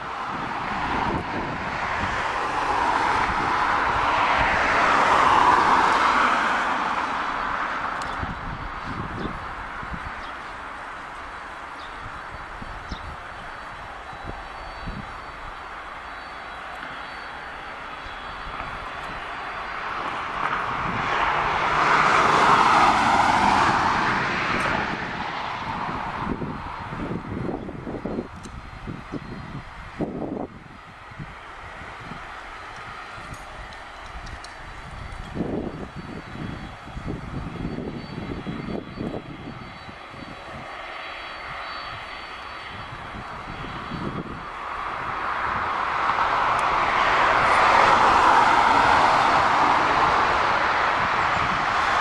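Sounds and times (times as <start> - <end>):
jet engines rushing: 0.0 - 52.0.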